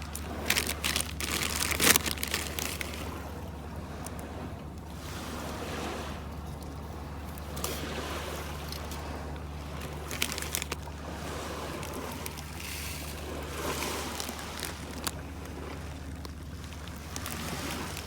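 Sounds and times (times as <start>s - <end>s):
small waves washing on shore: 0.0s - 18.0s
steady low hum: 0.0s - 18.0s.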